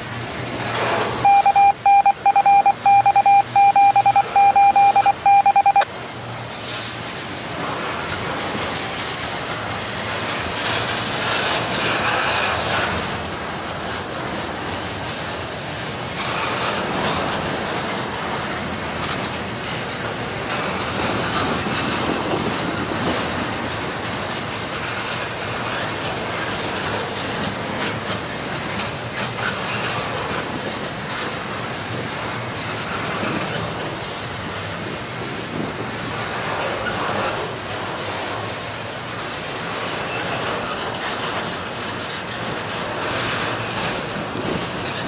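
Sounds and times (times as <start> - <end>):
freight train wheels clacking: 6.0 - 45.0.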